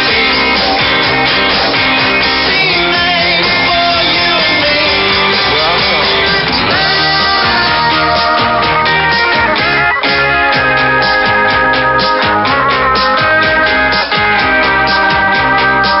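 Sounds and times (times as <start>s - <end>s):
guitar rock music: 0.0s - 16.0s.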